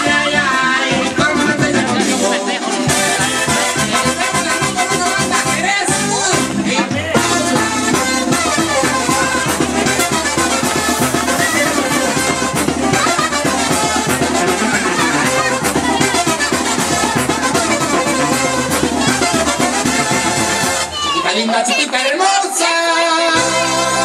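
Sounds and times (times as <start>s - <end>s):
dance music with brass and drums: 0.0s - 24.0s.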